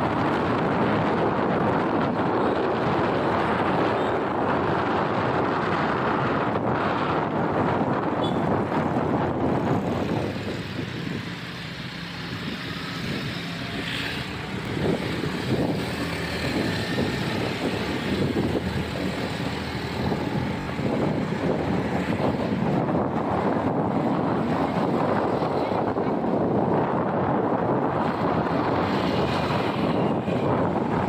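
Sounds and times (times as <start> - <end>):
motorbike running: 0.0 - 31.0
wind noise on microphone: 0.0 - 31.0.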